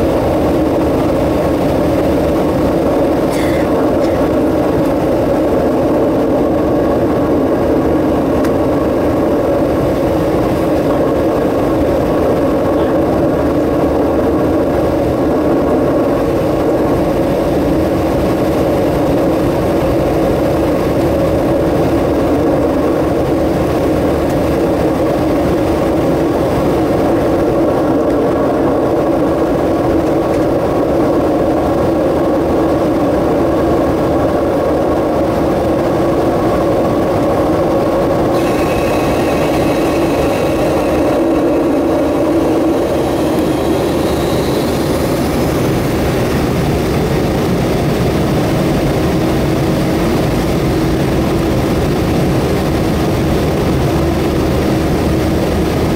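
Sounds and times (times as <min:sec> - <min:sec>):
jet engines droning: 0:00.0 - 0:55.9
low airframe rumble: 0:00.0 - 0:55.9.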